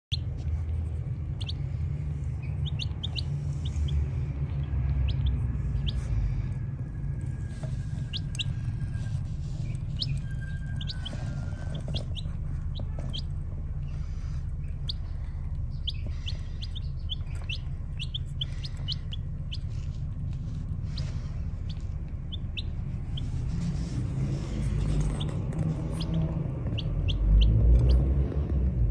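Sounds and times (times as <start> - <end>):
steady low rumble: 0.0 - 28.9
baby chicks peeping: 0.1 - 28.9.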